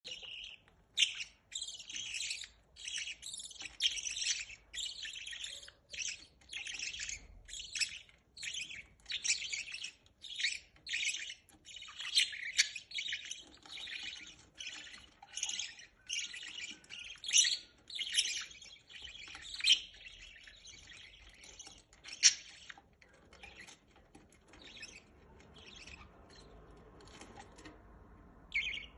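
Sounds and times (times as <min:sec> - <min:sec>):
budgerigars chirping: 0:00.0 - 0:27.7, 0:28.4 - 0:28.9.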